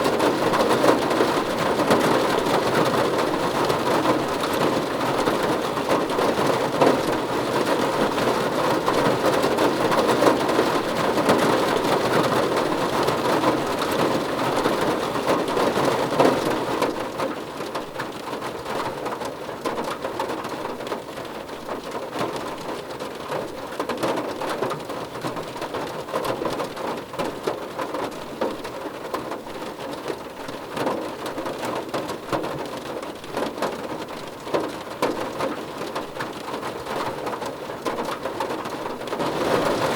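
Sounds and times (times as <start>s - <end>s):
rain drumming on a car roof: 0.0s - 39.9s.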